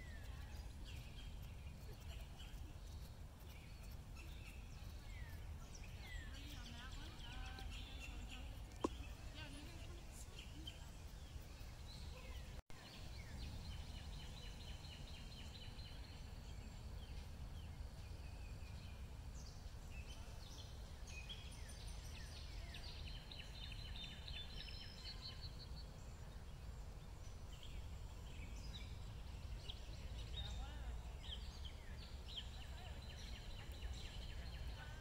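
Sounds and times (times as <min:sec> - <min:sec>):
low steady outdoor rumble: 0:00.0 - 0:35.0
songbirds singing and chirping: 0:00.0 - 0:35.0.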